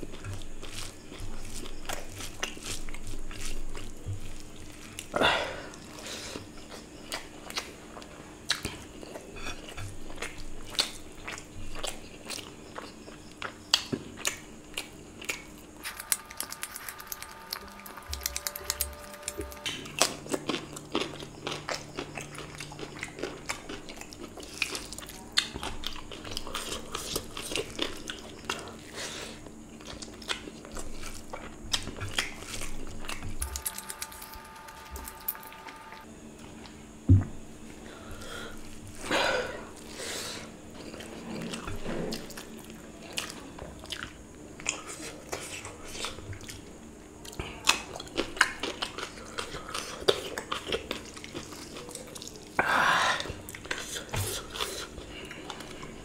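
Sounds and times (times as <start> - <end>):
man chewing and biting food: 0.0 - 36.8, 40.7 - 52.6.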